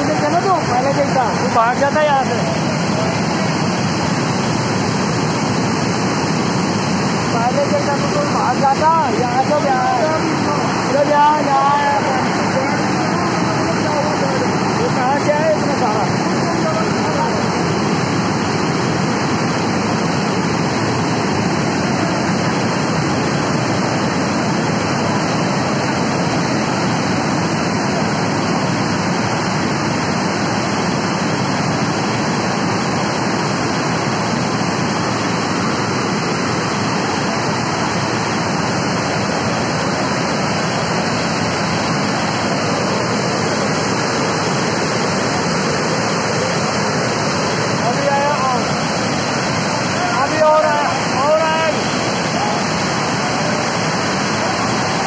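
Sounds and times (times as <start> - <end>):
floodwater rushing through gorge: 0.0 - 55.0.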